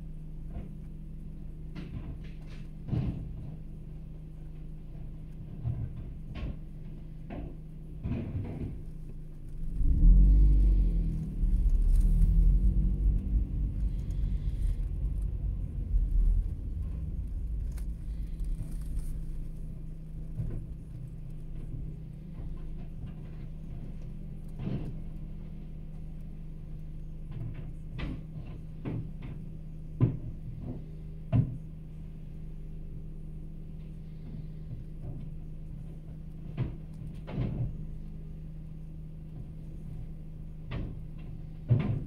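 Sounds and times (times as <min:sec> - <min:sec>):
car rumble: 0:00.0 - 0:42.0.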